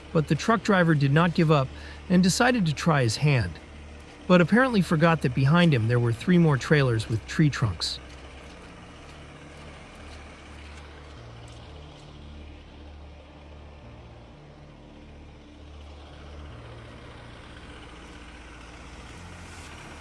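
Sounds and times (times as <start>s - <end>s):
diesel truck engine labouring: 0.0s - 20.0s.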